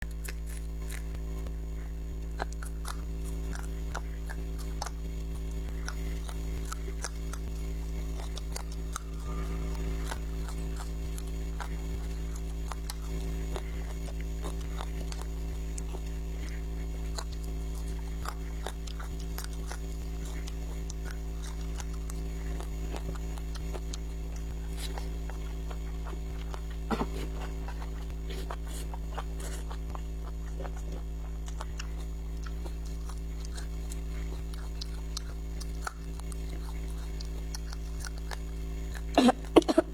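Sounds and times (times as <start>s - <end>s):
chewing crunches: 0.0s - 39.9s
low electrical hum: 0.0s - 39.9s.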